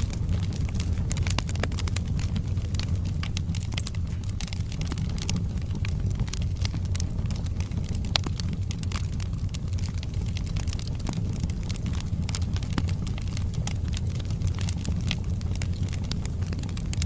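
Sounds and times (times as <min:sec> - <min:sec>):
burning logs crackling and popping: 0:00.0 - 0:17.0
fire rumbling: 0:00.0 - 0:17.0.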